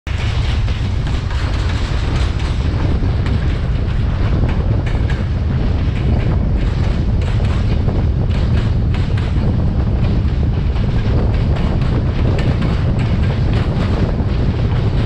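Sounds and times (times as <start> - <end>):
low rumble of travel: 0.0 - 15.0
wind buffeting microphone: 0.1 - 15.0.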